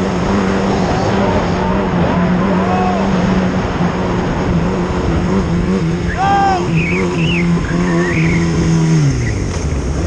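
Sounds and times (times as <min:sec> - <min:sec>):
motorcycle engine at steady revs: 0:00.0 - 0:10.0
wind noise: 0:00.0 - 0:10.0.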